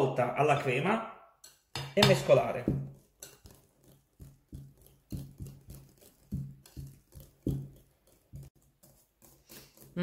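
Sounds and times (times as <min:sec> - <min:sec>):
whisk beating cream in glass bowl: 0:01.4 - 0:10.0.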